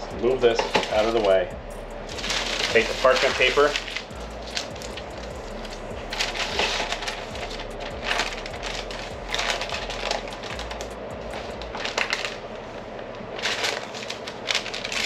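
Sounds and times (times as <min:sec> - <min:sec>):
steady low hum: 0:00.0 - 0:15.0
parchment paper crinkling: 0:00.5 - 0:01.4, 0:02.2 - 0:15.0.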